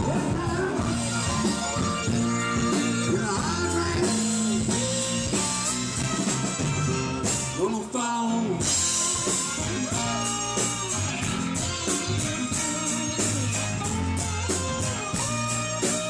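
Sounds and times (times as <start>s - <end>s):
drums with cymbals: 0.0s - 7.7s, 8.6s - 16.0s
bass: 0.0s - 16.0s
lead guitar bending notes: 0.0s - 16.0s.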